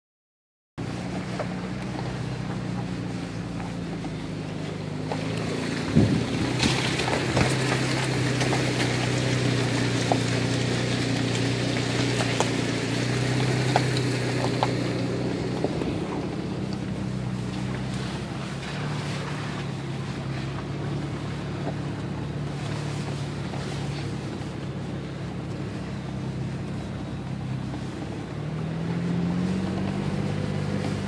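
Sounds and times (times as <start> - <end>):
car engine running: 0.8 - 31.0.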